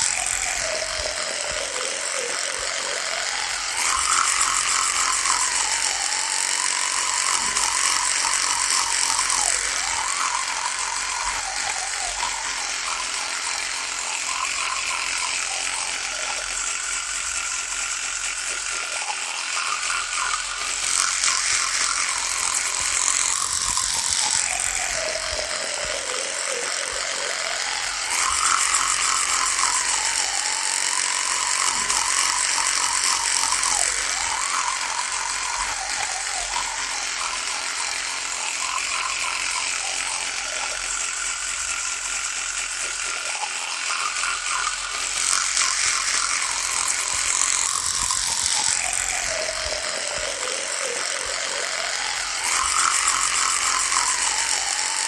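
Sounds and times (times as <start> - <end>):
electric toothbrush buzzing: 0.0 - 55.0.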